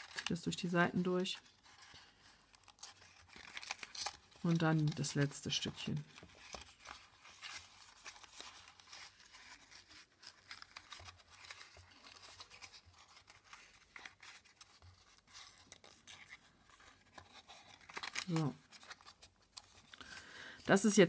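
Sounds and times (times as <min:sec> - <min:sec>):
small paper clicks: 0:00.0 - 0:00.4, 0:01.4 - 0:20.2
paper rustling and crinkling: 0:00.0 - 0:20.8.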